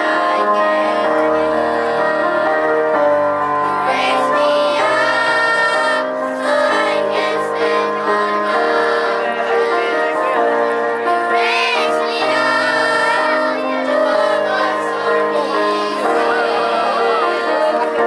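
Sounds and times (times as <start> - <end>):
song with singing voice: 0.0 - 18.0.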